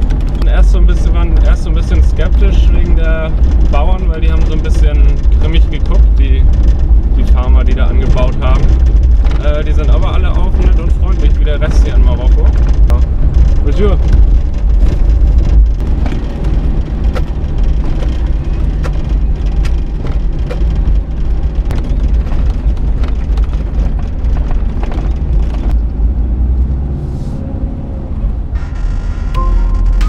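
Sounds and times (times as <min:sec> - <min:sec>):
knocks and rattles: 0:00.0 - 0:25.9
vehicle engine and road rumble: 0:00.0 - 0:30.0.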